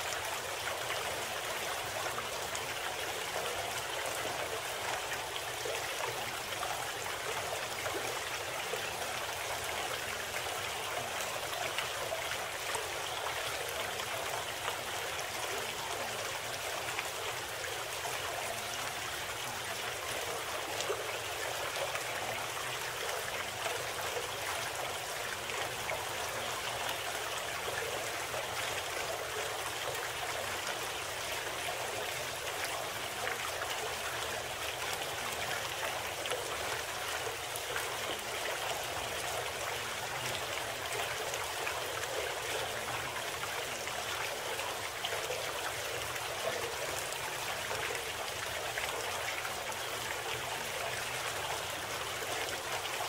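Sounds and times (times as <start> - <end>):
stream running water: 0.0 - 53.0.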